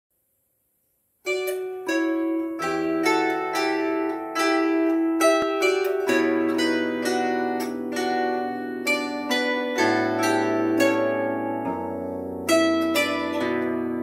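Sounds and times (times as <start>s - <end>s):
plucked strings: 1.2s - 14.0s.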